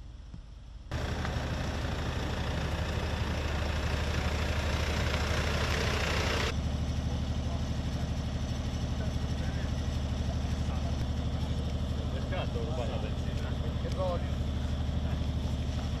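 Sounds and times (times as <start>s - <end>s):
low engine hum: 0.1s - 16.0s
van driving past: 0.9s - 16.0s.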